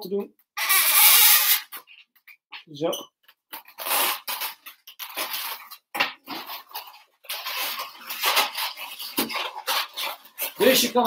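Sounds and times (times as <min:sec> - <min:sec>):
balloons rubbing and squeaking: 0:00.6 - 0:11.0.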